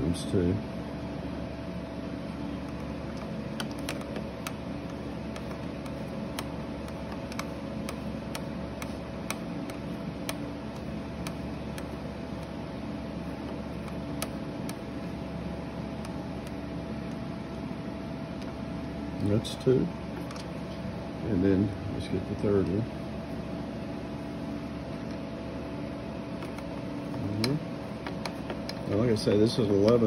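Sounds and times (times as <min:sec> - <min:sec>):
room hum: 0:00.0 - 0:30.0.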